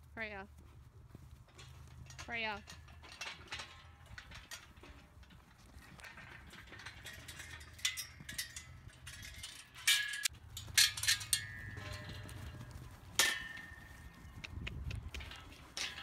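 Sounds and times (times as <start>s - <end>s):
steel panels knocking and clanging: 1.5s - 13.9s, 15.1s - 16.0s.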